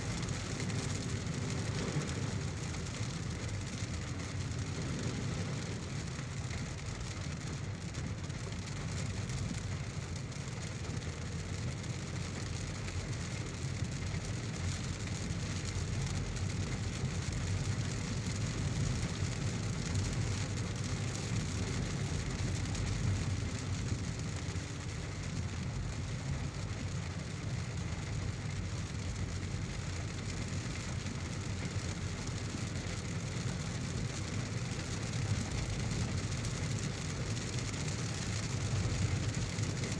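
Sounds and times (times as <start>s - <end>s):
car engine rumble: 0.0s - 39.9s
heavy rain on a car: 0.0s - 39.9s.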